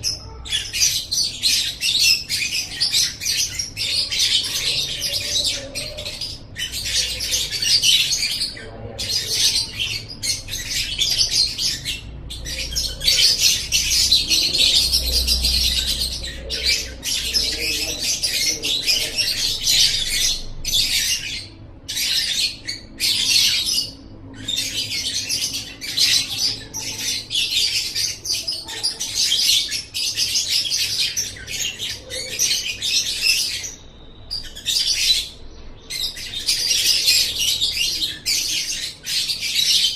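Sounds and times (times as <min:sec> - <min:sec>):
lovebird high-pitched chattering: 0:00.0 - 0:39.9.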